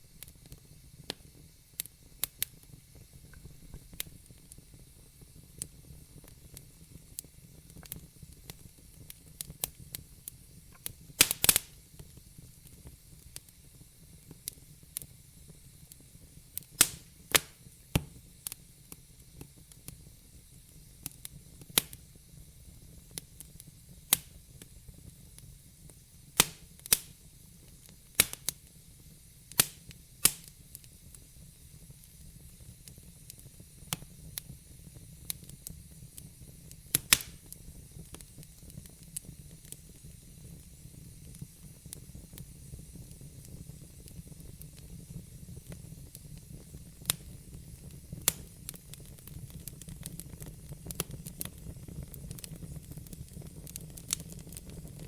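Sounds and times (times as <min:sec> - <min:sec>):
fire crackling and popping: 0:00.0 - 0:55.0
soft steady hiss: 0:00.0 - 0:55.0.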